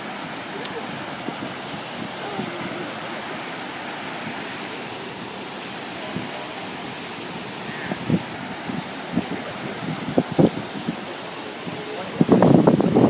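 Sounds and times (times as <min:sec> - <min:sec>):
water pouring down a cascade: 0:00.0 - 0:13.0.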